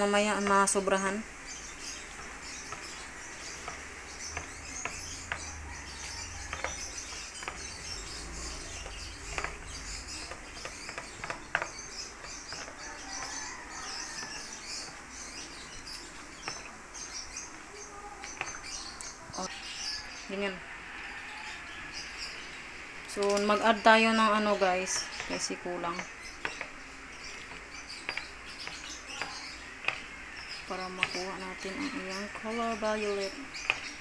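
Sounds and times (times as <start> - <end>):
faint bird chirping: 0.0 - 34.0
spoon stirring batter in bowl: 1.6 - 19.2, 23.2 - 34.0.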